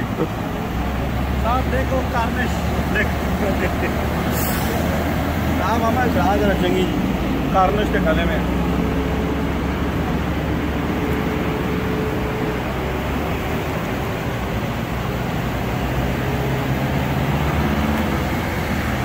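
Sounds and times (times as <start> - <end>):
road traffic with engines humming: 0.0 - 19.0.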